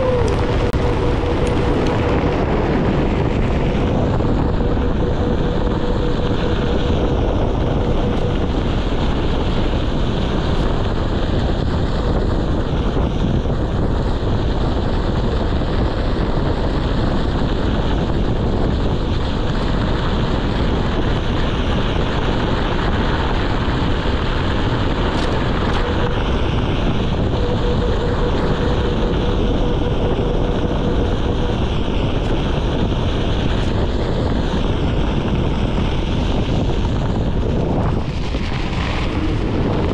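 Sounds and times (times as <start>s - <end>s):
faint steady whine: 0.0s - 39.9s
wind rumble on microphone: 0.0s - 39.9s.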